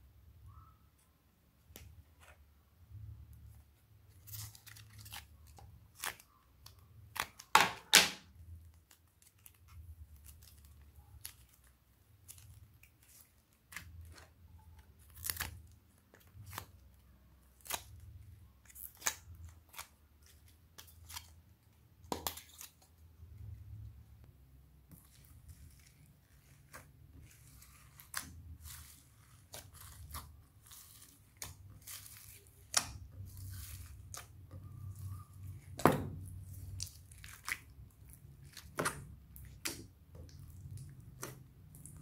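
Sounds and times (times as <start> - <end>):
clay clicks and crackles: 0.9 - 42.0.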